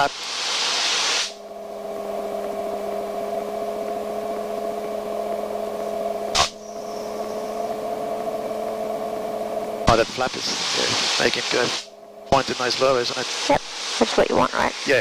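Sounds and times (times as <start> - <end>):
light aircraft engine idling: 0.0 - 14.2.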